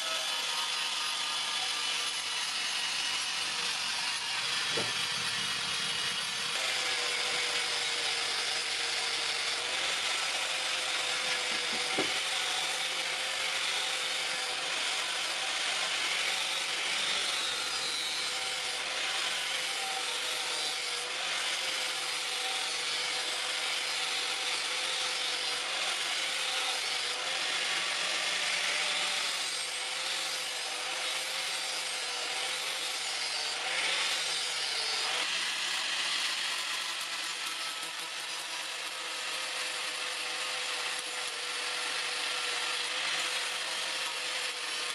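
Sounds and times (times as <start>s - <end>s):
grinder grinding metal: 0.0s - 44.9s.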